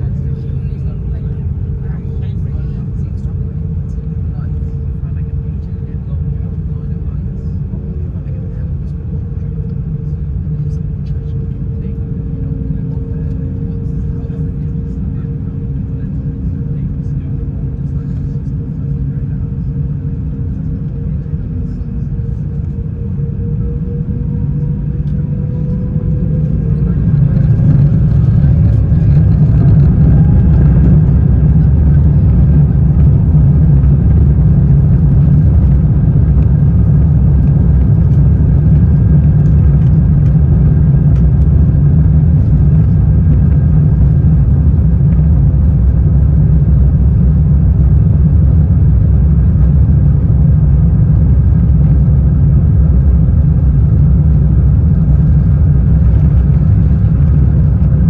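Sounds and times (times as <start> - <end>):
jet engine rumble in cabin: 0.0 - 58.0.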